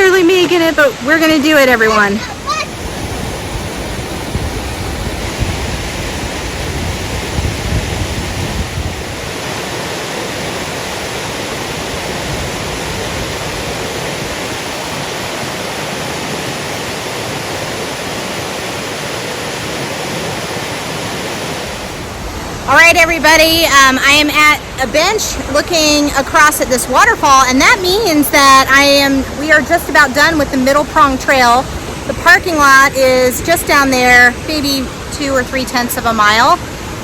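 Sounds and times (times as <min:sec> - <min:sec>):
stream and waterfall rushing: 0:00.0 - 0:37.0.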